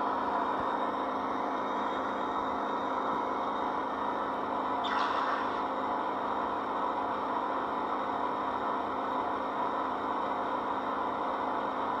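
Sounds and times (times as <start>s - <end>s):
model train whirring hum: 0.0s - 12.0s.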